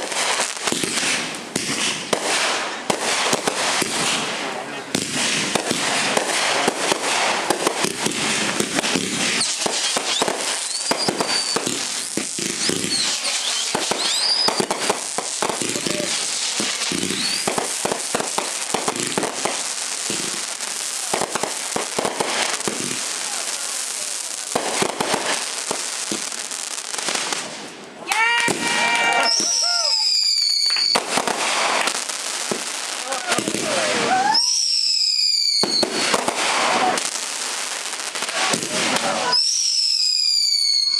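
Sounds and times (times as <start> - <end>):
fireworks crackling and popping: 0.0 - 40.9
fireworks high whistles: 0.0 - 40.9.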